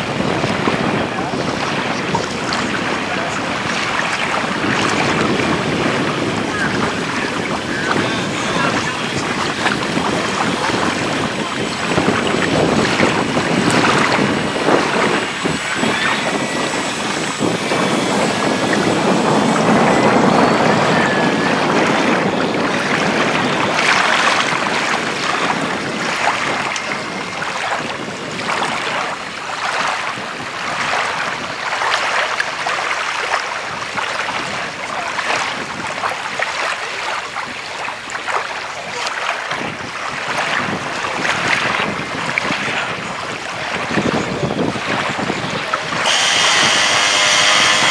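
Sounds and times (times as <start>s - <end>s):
electric motor and propeller whine: 0.0s - 38.7s, 40.4s - 47.9s
wind buffeting microphone: 0.0s - 47.9s.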